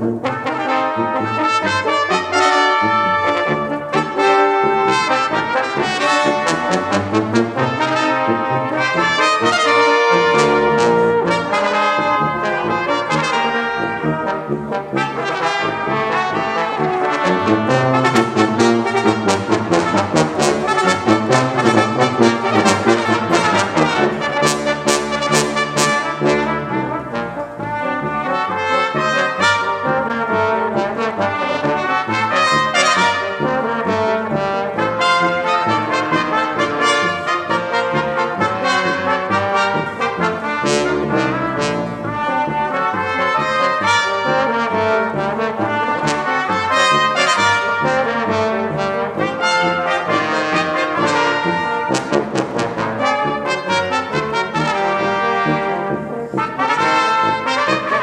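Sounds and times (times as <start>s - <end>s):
brass quintet playing: 0.0s - 58.0s.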